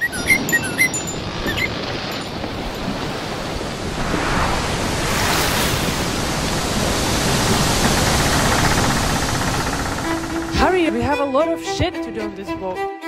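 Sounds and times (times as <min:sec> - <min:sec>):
ocean surf rushing: 0:00.3 - 0:11.0.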